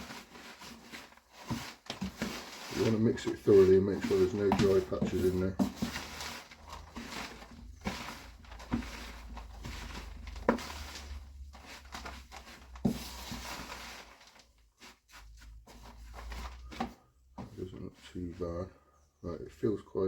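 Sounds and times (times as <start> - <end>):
sawdust being mixed by hand: 0.0 - 18.8.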